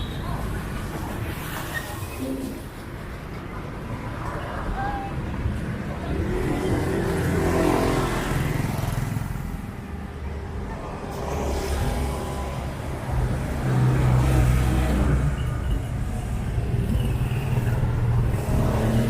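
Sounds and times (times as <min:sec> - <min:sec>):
vehicles passing close by: 0:00.0 - 0:19.0.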